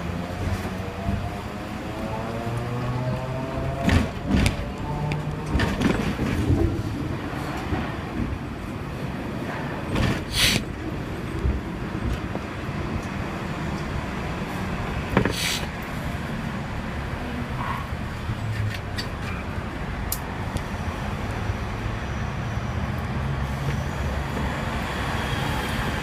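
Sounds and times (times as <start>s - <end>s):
tram rumbling on track: 0.0s - 26.0s.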